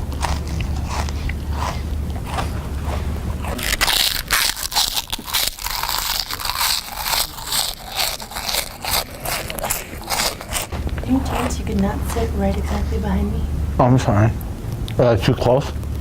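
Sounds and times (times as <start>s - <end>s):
loud chewing and crunching: 0.0s - 13.4s.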